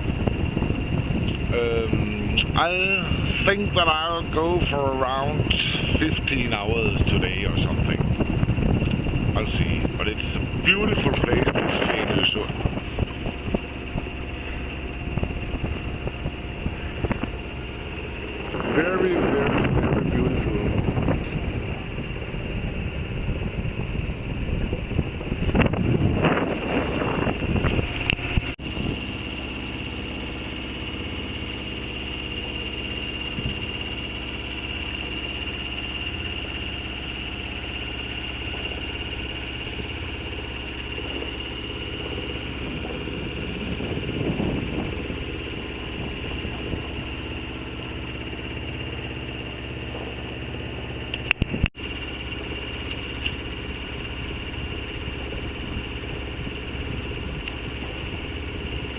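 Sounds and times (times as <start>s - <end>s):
wind gusts on microphone: 0.0s - 29.2s, 33.2s - 58.9s
boat engine droning: 0.0s - 58.9s.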